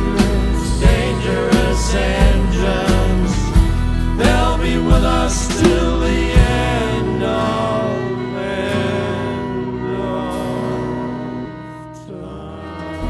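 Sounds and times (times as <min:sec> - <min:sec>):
live band music: 0:00.0 - 0:13.0
man singing long held notes: 0:00.0 - 0:13.0.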